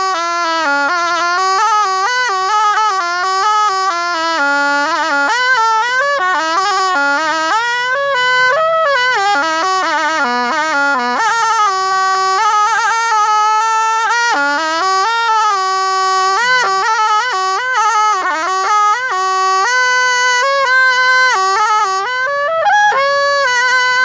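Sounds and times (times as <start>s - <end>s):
reed oboe solo melody: 0.0s - 24.0s.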